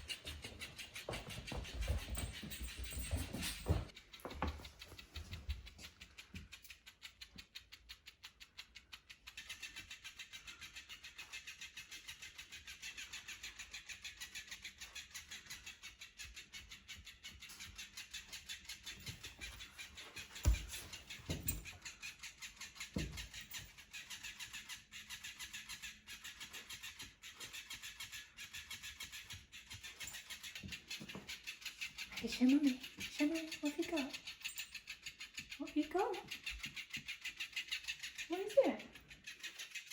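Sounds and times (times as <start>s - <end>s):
toy fish flapping tail: 3.9s - 39.9s.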